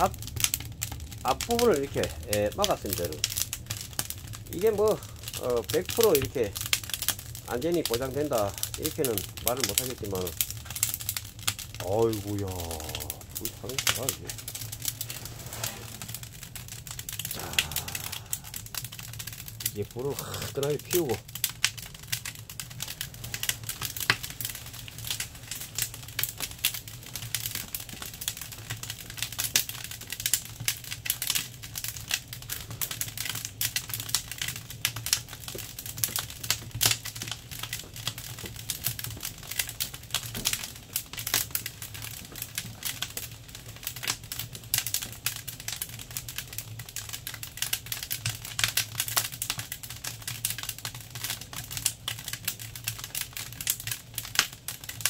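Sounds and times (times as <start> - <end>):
firewood crackling and popping: 0.0 - 55.0.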